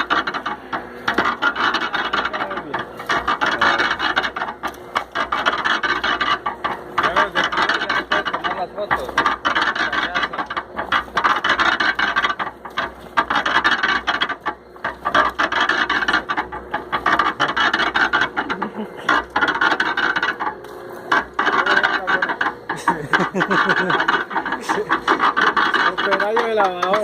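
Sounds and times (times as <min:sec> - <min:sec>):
small knocks: 0:00.0 - 0:27.0.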